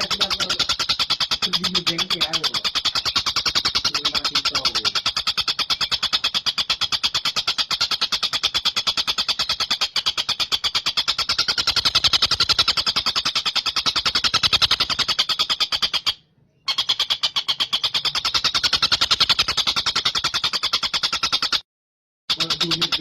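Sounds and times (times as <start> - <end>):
kingfisher rattling call: 0.0 - 21.6, 22.3 - 23.0.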